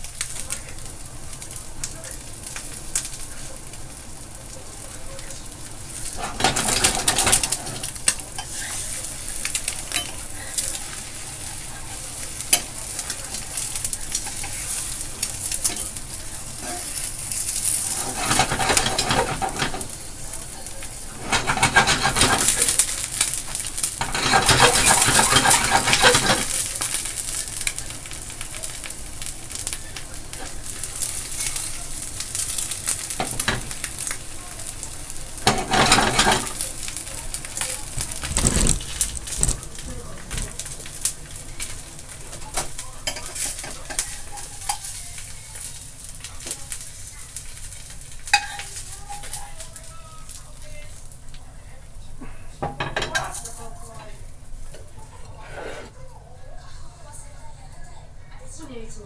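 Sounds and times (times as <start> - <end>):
eggs sizzling in a frying pan: 0.0 - 59.0.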